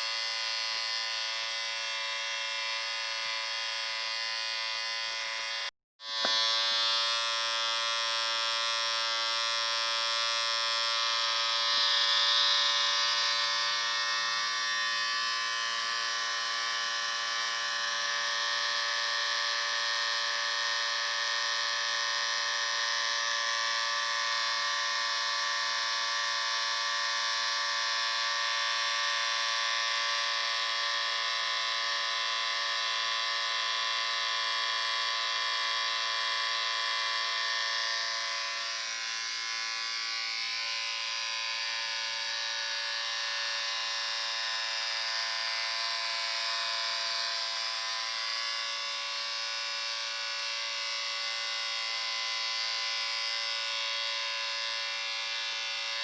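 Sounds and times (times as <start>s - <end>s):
electric shaver buzzing: 0.0s - 56.0s.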